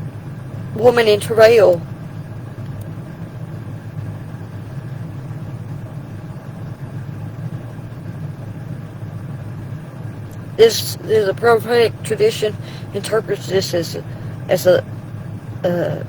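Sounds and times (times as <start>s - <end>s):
low rumbling hum: 0.0s - 16.0s.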